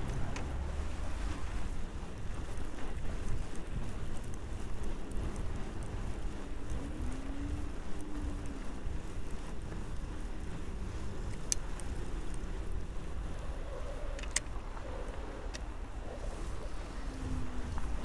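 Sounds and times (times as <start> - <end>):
bike rolling over snow: 0.0 - 18.0.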